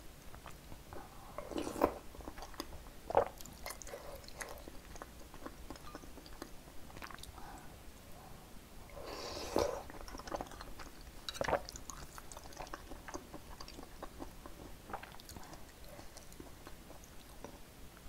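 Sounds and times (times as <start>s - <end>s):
wet chewing sounds: 0.3s - 7.7s, 9.8s - 17.6s.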